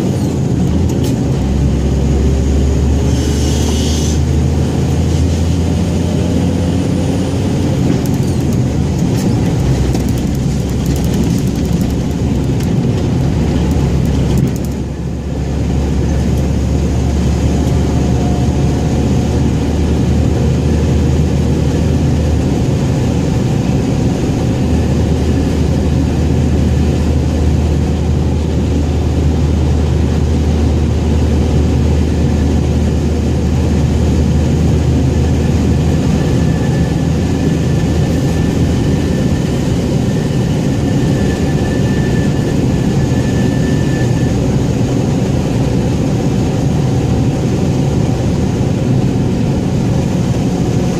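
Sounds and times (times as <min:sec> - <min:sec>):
diesel truck engine droning: 0:00.0 - 0:50.9.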